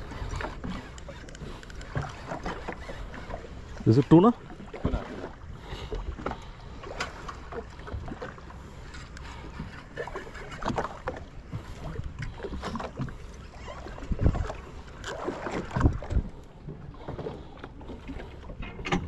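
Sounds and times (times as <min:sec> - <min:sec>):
water sloshing against boat: 0:00.0 - 0:19.0.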